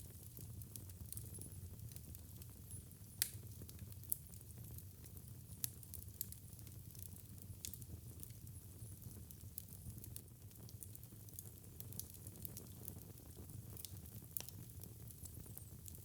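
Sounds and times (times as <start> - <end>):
wood fire crackling and popping: 0.2 - 8.5, 9.2 - 16.0.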